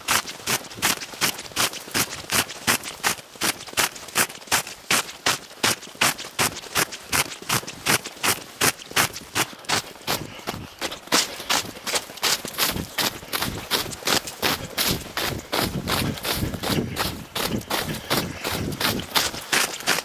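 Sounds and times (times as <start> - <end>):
boots running on snow: 0.0 - 20.0.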